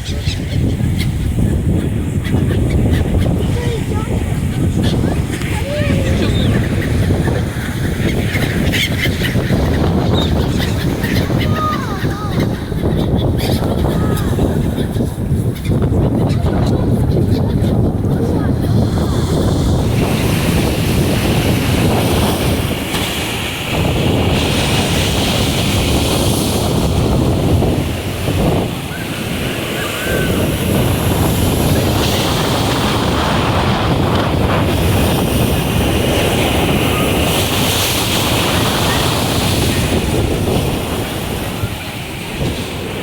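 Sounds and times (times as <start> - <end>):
surf washing onto shore: 0.0 - 43.0
wind buffeting microphone: 0.0 - 43.0.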